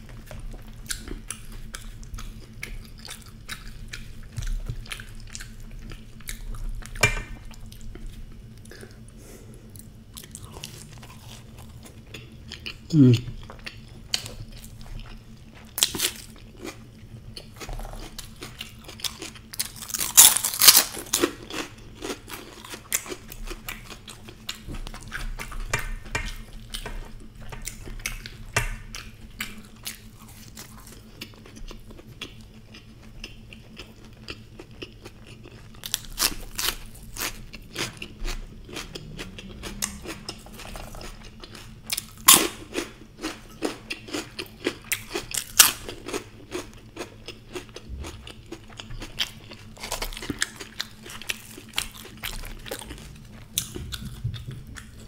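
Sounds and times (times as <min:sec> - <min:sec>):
crunchy bites and chewing: 0:09.7 - 0:55.0.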